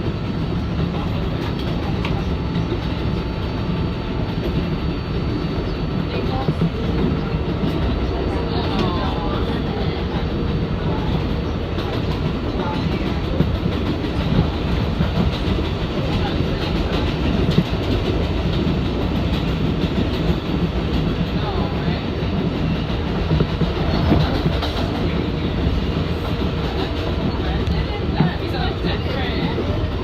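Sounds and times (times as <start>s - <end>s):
subway train rumbling on rails: 0.0s - 30.0s.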